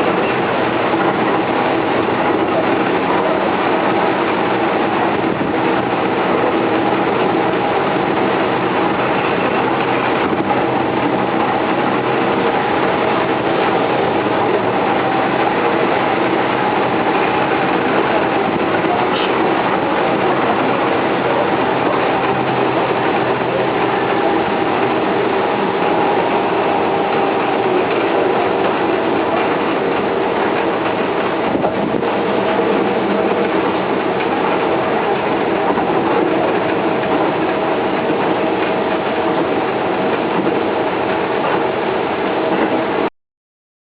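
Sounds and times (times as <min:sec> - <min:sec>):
steady humming tones: 0:00.0 - 0:42.4
train wheels rumbling on rail: 0:00.0 - 0:43.1.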